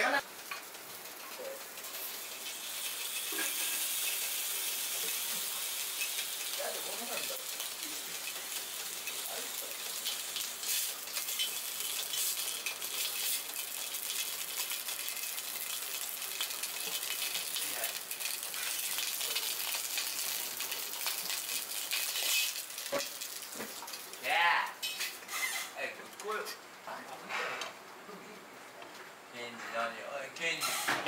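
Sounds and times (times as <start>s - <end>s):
meat sizzling in a wok: 0.2s - 25.9s.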